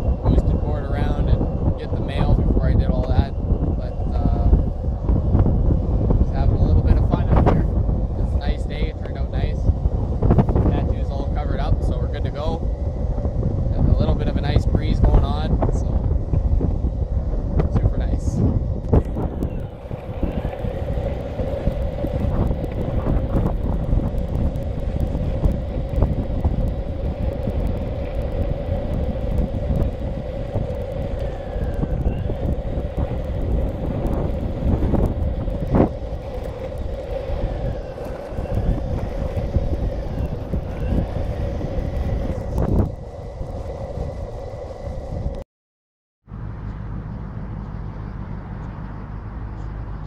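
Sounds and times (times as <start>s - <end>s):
faint electric motor whine: 0.0s - 45.4s
wheel rumble on asphalt: 0.0s - 45.4s, 46.3s - 50.0s
wind buffeting microphone: 0.0s - 45.4s.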